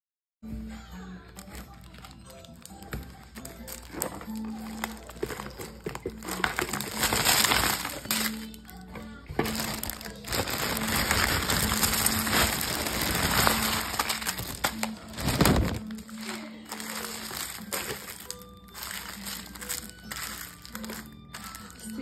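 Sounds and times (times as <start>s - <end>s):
candy rattling onto wooden floor: 1.4s - 8.6s, 9.3s - 22.0s.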